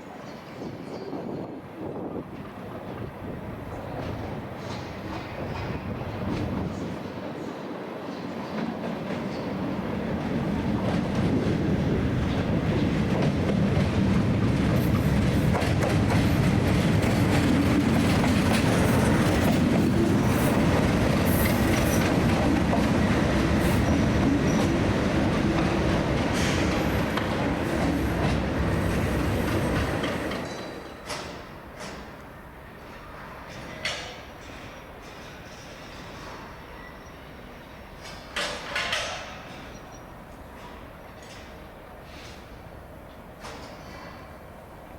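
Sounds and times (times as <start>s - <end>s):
train wheels clattering: 3.7s - 6.9s, 8.0s - 32.3s, 32.9s - 44.6s.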